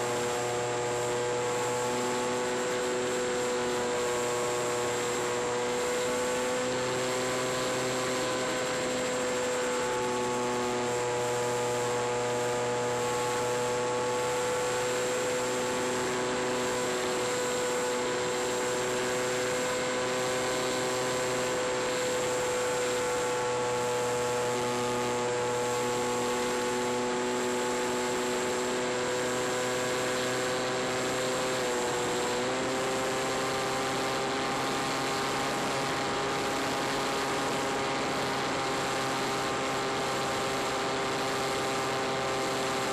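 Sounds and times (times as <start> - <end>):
model plane motor whining: 0.0 - 42.9
thin high whine: 0.0 - 42.9.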